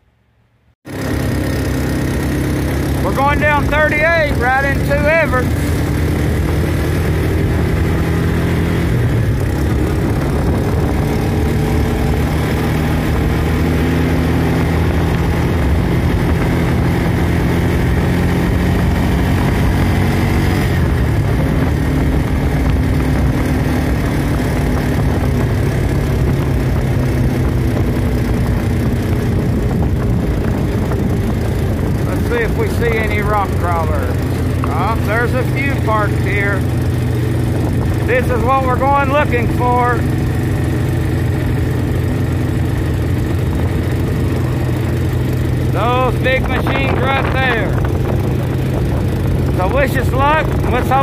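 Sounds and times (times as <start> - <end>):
wind and road noise: 0.0 - 51.0
atv engine running: 0.8 - 51.0.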